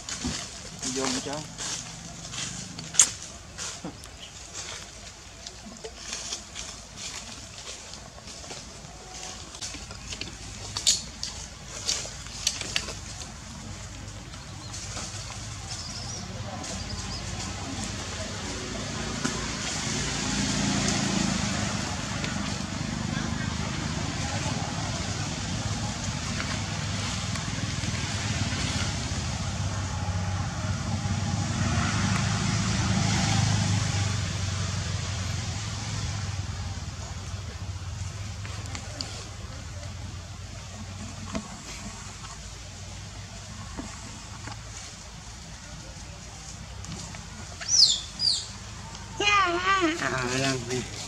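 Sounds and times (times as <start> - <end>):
low engine hum: 0.0 - 51.0
steady outdoor hiss: 0.0 - 51.0.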